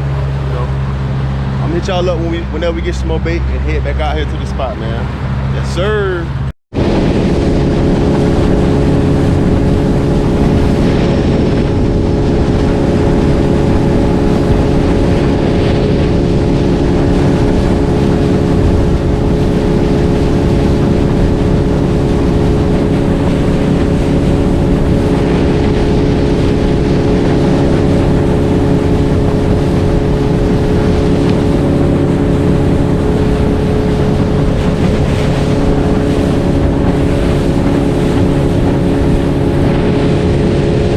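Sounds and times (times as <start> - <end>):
motorboat engine droning: 0.0 - 40.9.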